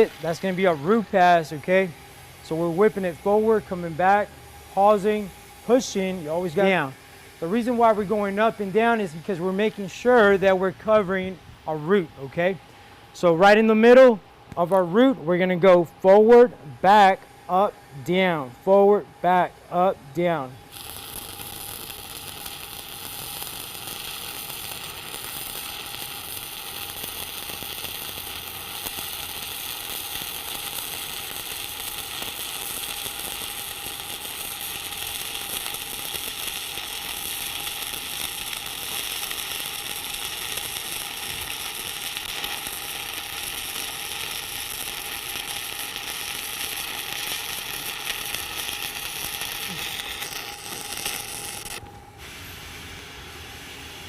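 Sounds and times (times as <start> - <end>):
welding arc sizzling and crackling: 0.0 - 54.0.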